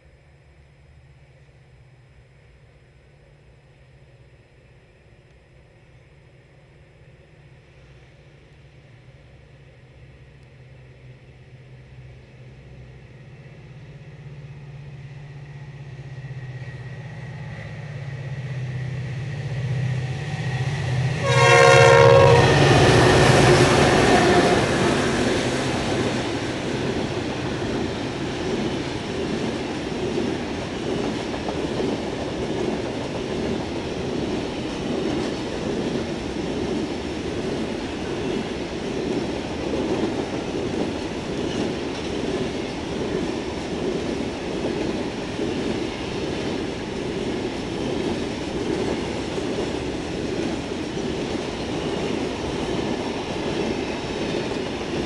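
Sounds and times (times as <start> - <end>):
freight train wheels rumbling: 5.8 - 55.0.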